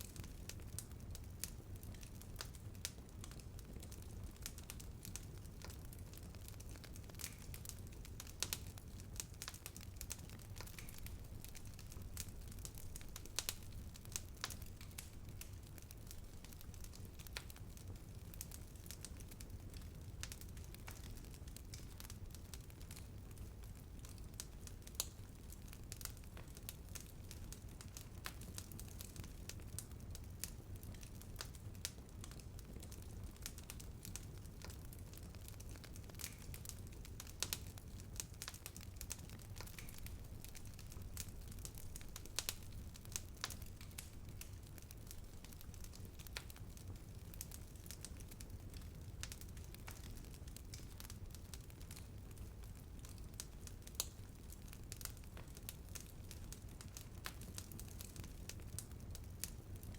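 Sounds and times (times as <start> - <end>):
burning wood crackling and popping: 0.0 - 59.9
bonfire rumbling: 0.1 - 59.9.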